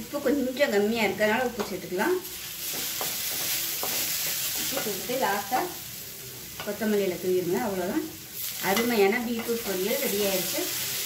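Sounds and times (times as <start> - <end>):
beetroot sizzling in a pan: 0.0 - 11.0.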